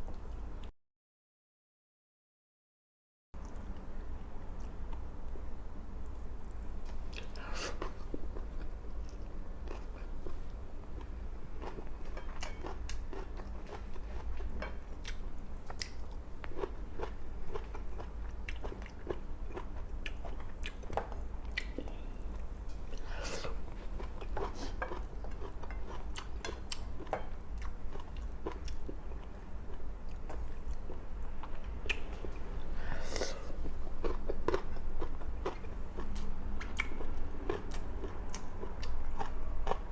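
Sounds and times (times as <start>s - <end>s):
steady low hum: 3.4s - 39.9s
person chewing food: 6.0s - 39.9s.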